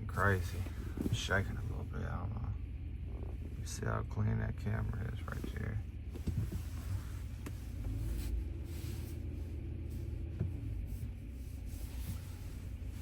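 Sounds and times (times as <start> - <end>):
pickup engine rumbling: 0.0 - 13.0.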